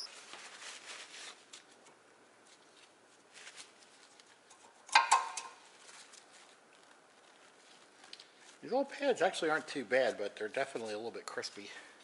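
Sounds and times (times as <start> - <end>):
paper towel rustling: 0.0 - 4.5, 5.6 - 12.0.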